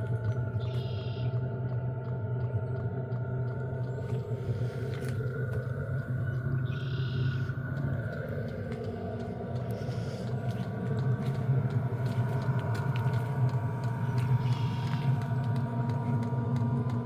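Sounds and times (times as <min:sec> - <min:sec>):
constant whine: 0:00.0 - 0:17.0
faint ticks: 0:00.0 - 0:17.0
heater combustion rumble: 0:00.0 - 0:17.0.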